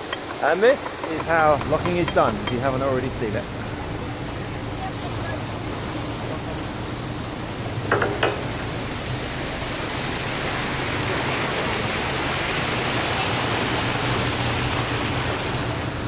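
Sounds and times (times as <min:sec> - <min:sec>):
water rushing into lock chamber: 0:00.0 - 0:16.0.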